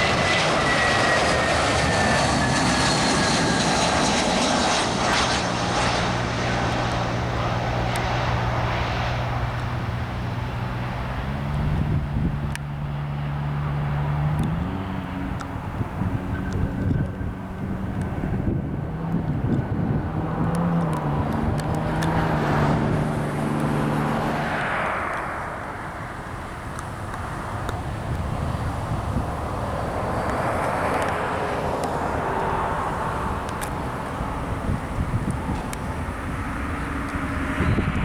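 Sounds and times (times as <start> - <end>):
jet airliner on approach: 0.0 - 38.0.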